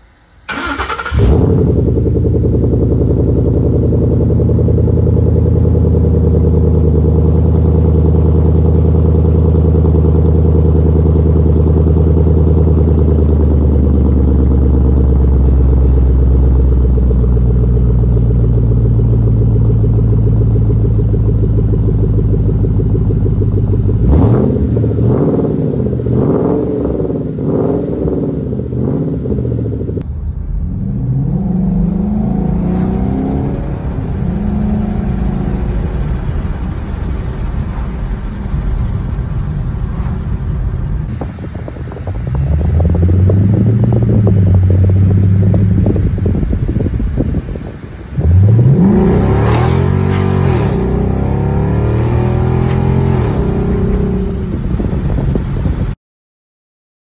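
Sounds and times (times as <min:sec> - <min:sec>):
car engine idling loud exhaust: 0:00.0 - 0:56.0
car accelerating from inside cabin: 0:00.5 - 0:30.0, 0:30.6 - 0:37.2, 0:41.1 - 0:56.0
car engine revving: 0:00.5 - 0:39.2, 0:40.0 - 0:56.0.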